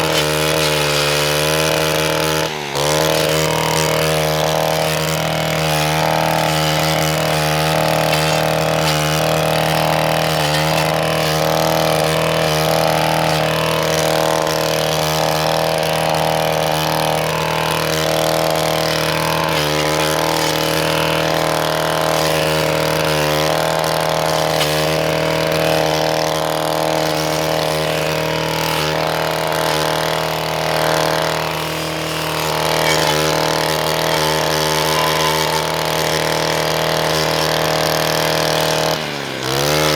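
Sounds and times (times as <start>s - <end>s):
gas weed whacker running: 0.0s - 39.9s.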